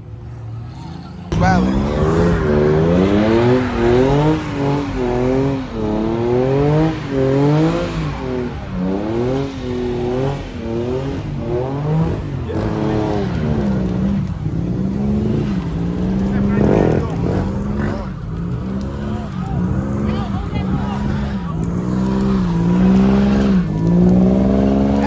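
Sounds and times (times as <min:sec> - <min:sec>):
car engine revving hard: 0:01.3 - 0:25.0.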